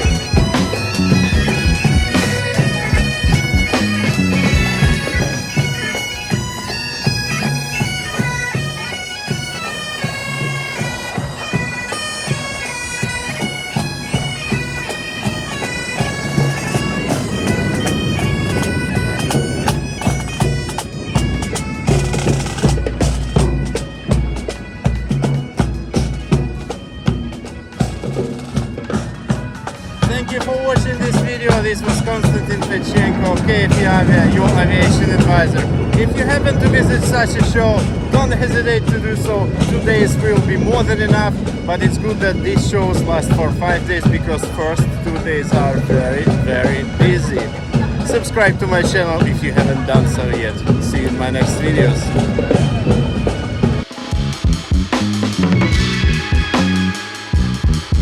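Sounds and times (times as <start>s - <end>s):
drumbeat: 0.0s - 9.4s, 12.3s - 58.0s
bagpipes playing a melody: 0.0s - 58.0s.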